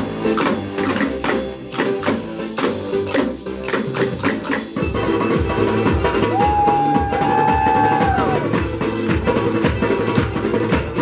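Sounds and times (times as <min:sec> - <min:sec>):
low drum beats: 0:00.0 - 0:11.0
tambourines and hand percussion: 0:00.0 - 0:11.0.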